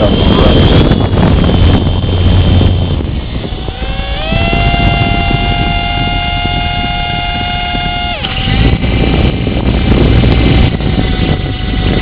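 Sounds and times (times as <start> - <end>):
helicopter rotors whirring: 0.0 - 12.0
high-pitched motor whine: 0.0 - 12.0.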